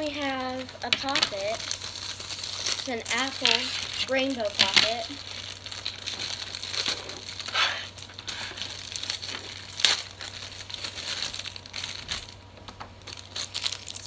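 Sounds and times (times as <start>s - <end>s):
fidget toy rustling and clicks: 0.0s - 12.2s.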